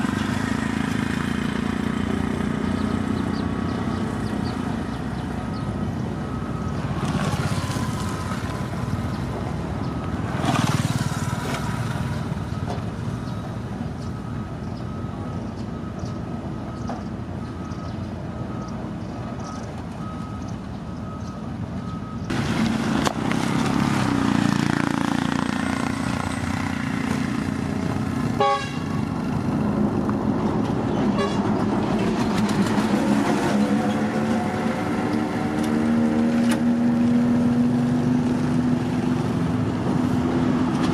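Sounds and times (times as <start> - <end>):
heavy machinery engines running: 0.0 - 40.9.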